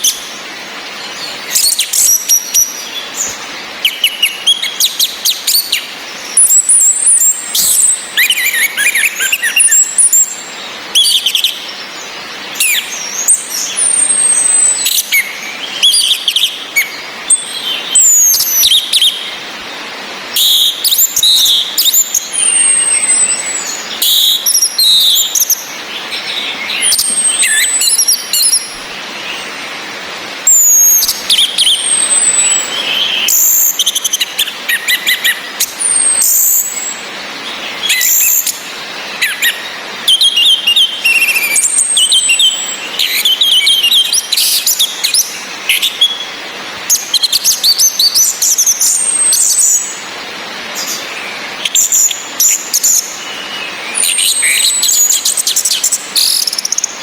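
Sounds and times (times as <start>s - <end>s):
bird song phrases: 0.0s - 29.8s, 30.4s - 57.0s
rain hiss: 0.0s - 57.0s.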